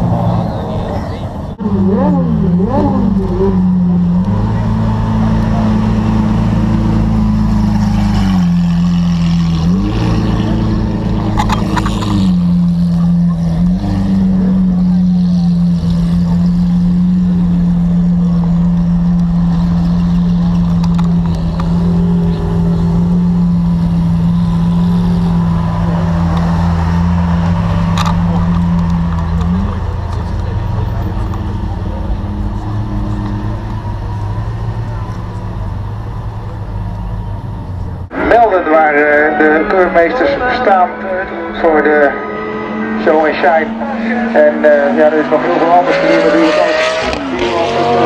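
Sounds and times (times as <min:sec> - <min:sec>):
car engines at low revs: 0:00.0 - 0:48.0.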